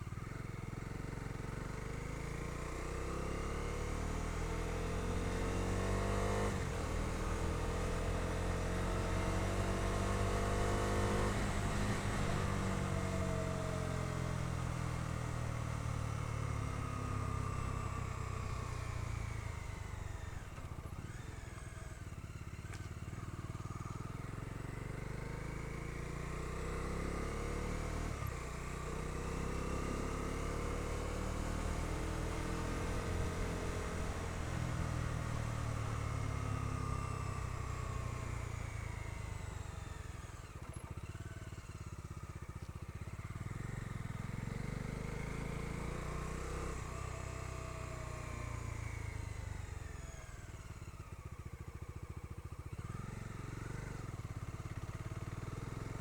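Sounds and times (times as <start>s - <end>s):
motorcycle engine revving: 0.8s - 22.8s, 24.5s - 41.9s, 43.1s - 56.0s.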